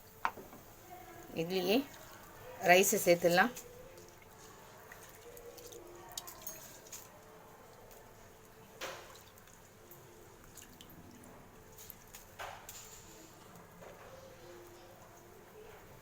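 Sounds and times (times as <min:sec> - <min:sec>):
faint water splashes: 0:00.1 - 0:16.0.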